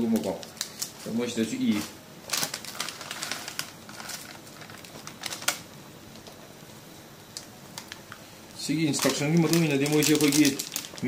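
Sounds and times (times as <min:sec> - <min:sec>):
foil packet crinkling: 0:00.0 - 0:06.5, 0:07.3 - 0:11.0
faint steady hiss: 0:00.0 - 0:11.0.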